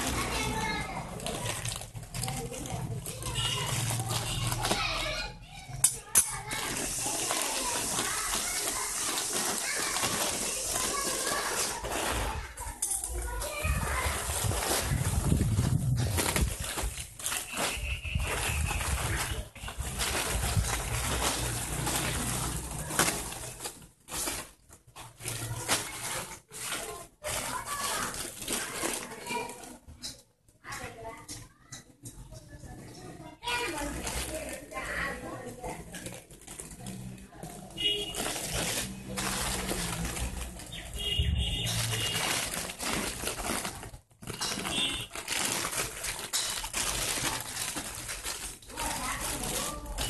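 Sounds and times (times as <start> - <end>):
plastic packaging crinkling: 0.0 - 31.1, 33.4 - 50.0.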